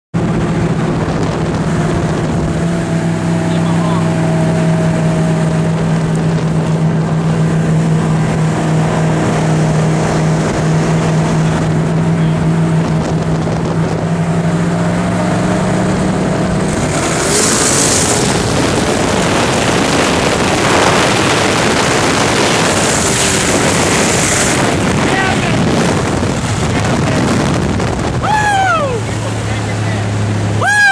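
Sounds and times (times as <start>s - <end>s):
car engine at speed: 0.1s - 30.9s
rushing wind: 0.1s - 30.9s.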